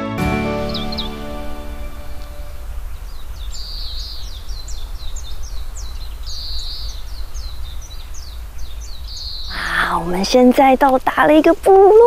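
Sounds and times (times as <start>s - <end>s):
birds chirping: 0.2s - 12.0s
steady low rumble: 0.4s - 11.5s
bird trills: 0.5s - 10.4s.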